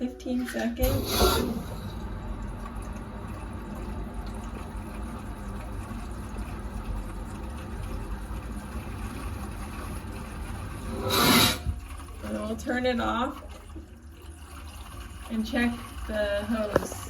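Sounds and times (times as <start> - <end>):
water rushing through tank: 0.0 - 17.0.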